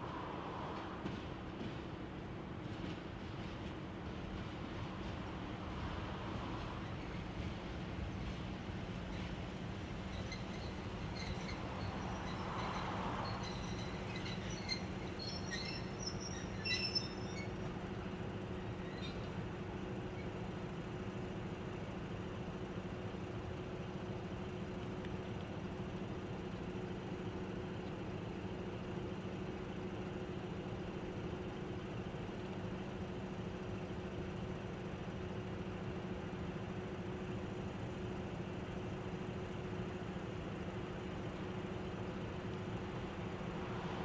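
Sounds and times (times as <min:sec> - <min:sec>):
diesel locomotive engines idling: 0:00.0 - 0:44.0.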